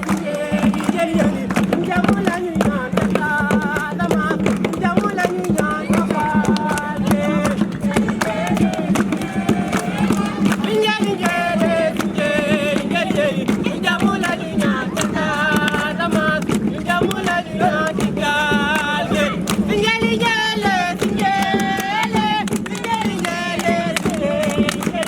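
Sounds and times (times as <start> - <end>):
group singing without instruments: 0.0 - 25.0
sharp claps or knocks: 0.0 - 25.0.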